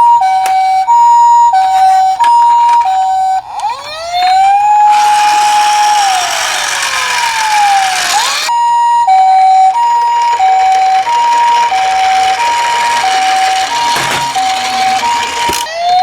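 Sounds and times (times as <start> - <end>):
ambulance siren: 0.0 - 16.0.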